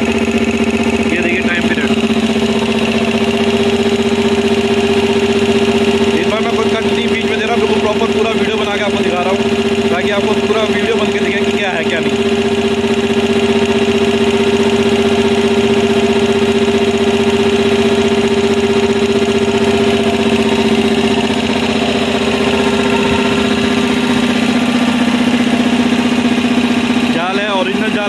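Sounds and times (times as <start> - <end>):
air compressor droning: 0.0 - 28.0.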